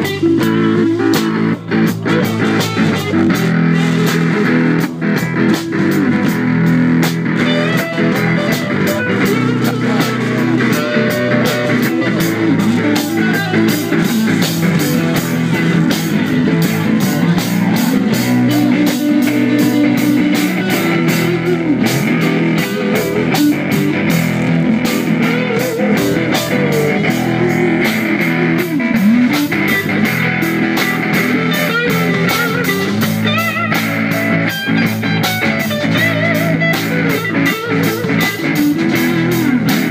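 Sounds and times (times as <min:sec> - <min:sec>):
electric guitar: 0:00.0 - 0:39.9
live blues-rock band playing: 0:00.0 - 0:39.9.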